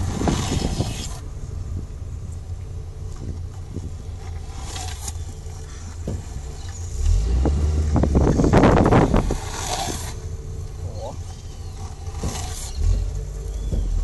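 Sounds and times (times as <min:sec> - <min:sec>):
longboard wheels sliding on asphalt: 0:00.0 - 0:14.0
road rumble: 0:00.0 - 0:14.0
wind: 0:00.0 - 0:14.0.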